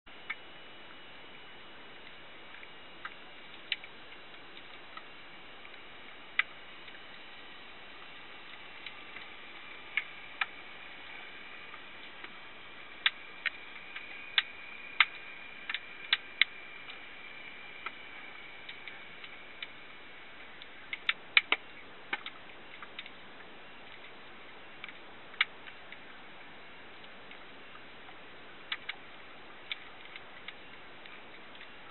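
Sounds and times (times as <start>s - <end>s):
steady hiss: 0.1s - 31.9s
underwater clicks and snaps: 2.0s - 7.3s, 8.0s - 26.2s, 26.9s - 31.9s.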